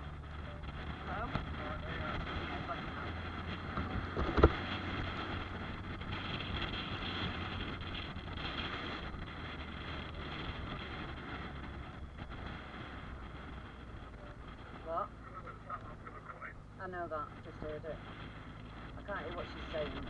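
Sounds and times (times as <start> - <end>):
motorcycle engine hum: 0.0 - 20.0
wind and road noise: 0.0 - 20.0.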